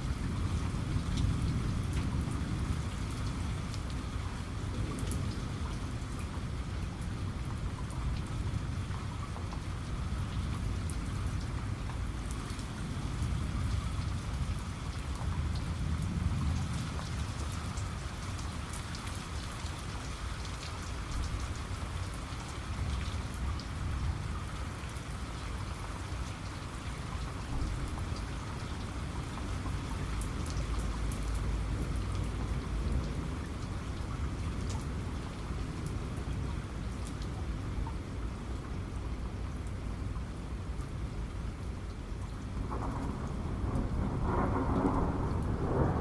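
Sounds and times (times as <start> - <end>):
continuous low rumble: 0.0 - 46.0
steady rain: 0.0 - 46.0.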